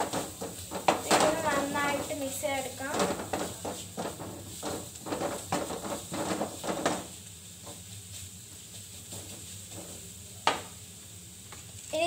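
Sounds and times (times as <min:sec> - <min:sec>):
wooden spatula scraping pan: 0:00.0 - 0:10.6.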